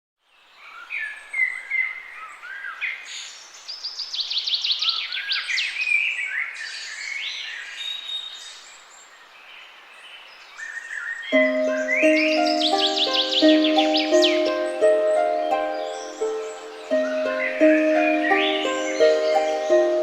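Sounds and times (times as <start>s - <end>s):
songbirds singing and chirping: 0.2s - 20.0s.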